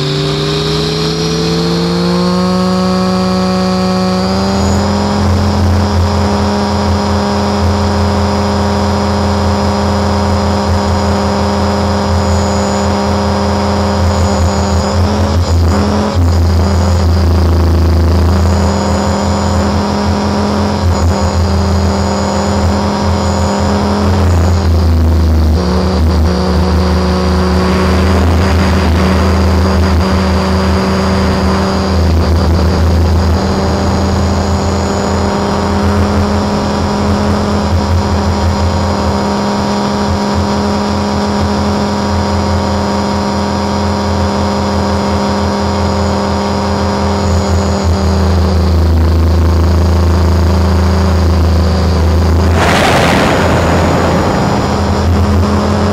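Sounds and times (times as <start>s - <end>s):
model helicopter rotor humming and whining: 0.0s - 55.9s.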